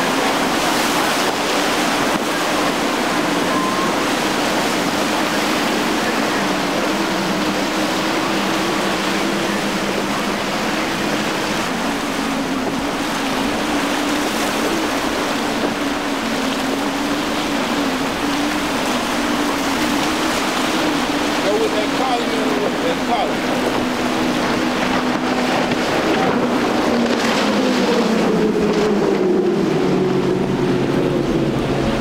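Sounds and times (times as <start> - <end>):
boat engine drone: 0.0 - 32.0
rushing spray and waves: 0.0 - 32.0.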